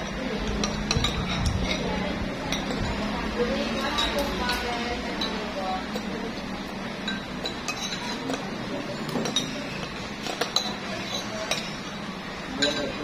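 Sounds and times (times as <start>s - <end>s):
cutlery clinking on plates: 0.0s - 3.1s, 3.8s - 6.4s, 7.0s - 13.0s.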